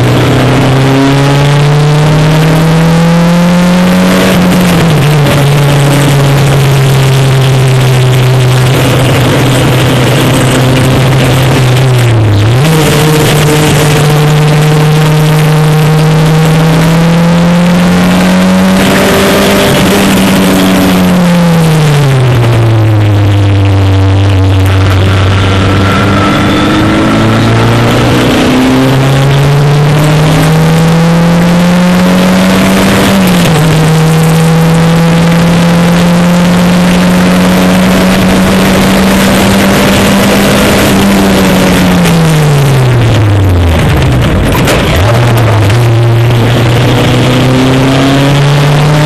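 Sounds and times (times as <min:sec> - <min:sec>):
racing car engine at full throttle: 0:00.0 - 0:49.0.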